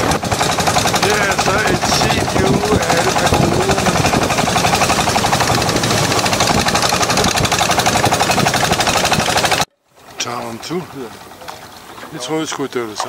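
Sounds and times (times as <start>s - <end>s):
boat engine running: 0.0s - 12.1s.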